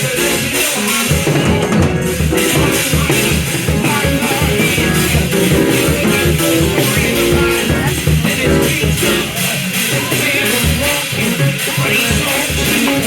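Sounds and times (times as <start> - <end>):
live church band music: 0.0 - 13.0.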